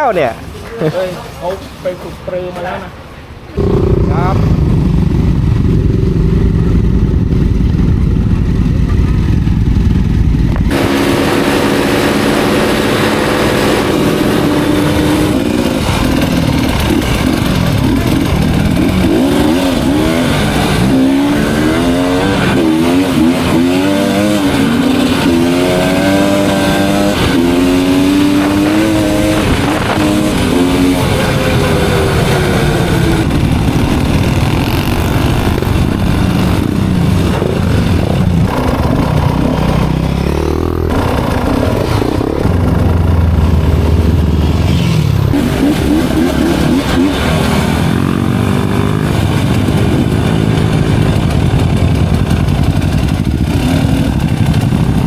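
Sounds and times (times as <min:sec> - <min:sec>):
motorcycle engine revving: 0:03.5 - 0:55.0.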